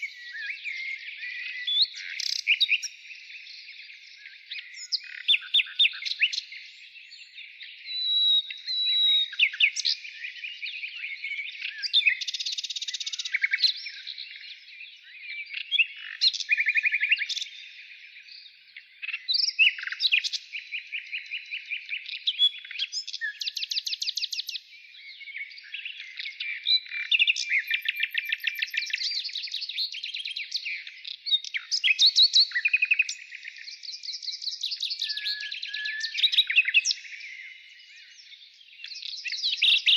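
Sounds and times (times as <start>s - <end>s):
birdsong with chirps and trills: 0.0s - 39.9s.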